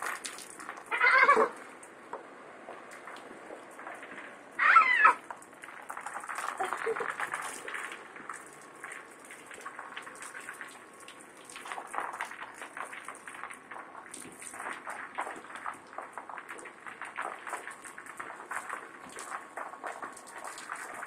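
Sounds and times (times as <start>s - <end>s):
rain-like pattering: 0.0s - 21.0s.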